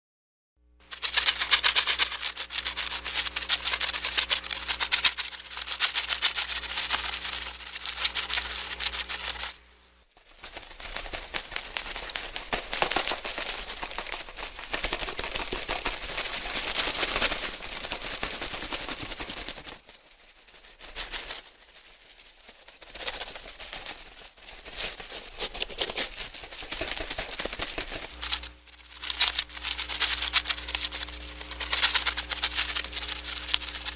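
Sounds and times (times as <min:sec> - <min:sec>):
papery wing fluttering clicks: 0:00.8 - 0:09.7, 0:10.3 - 0:19.9, 0:22.7 - 0:33.9.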